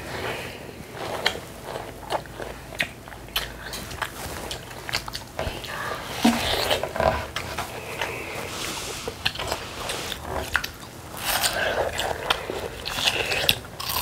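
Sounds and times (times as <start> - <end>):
chewing watermelon mouth clicks: 1.1 - 8.1, 9.2 - 14.0.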